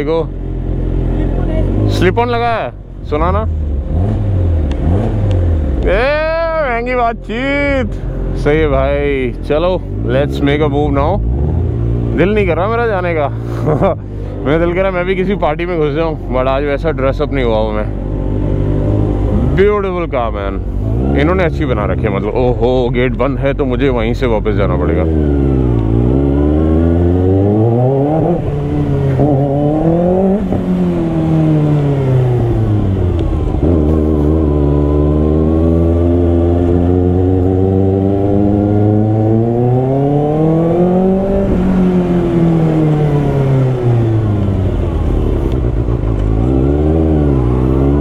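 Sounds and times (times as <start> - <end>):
motorcycle engine accelerating: 0.0 - 7.8, 8.6 - 48.0.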